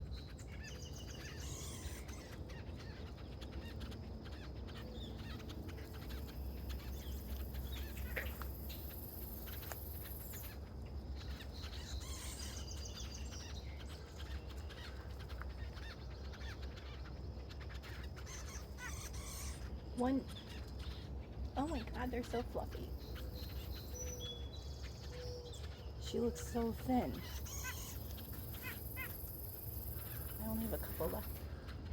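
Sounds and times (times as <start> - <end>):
birds calling: 0.0 - 31.9.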